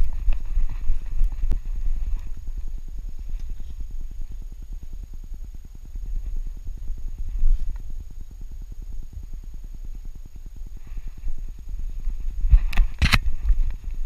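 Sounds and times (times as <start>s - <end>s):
low rumble with rapid pulses: 0.0s - 14.0s.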